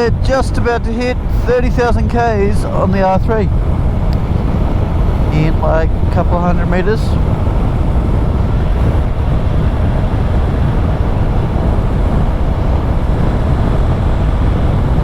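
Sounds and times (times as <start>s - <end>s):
wind rush and road noise: 0.0s - 15.0s.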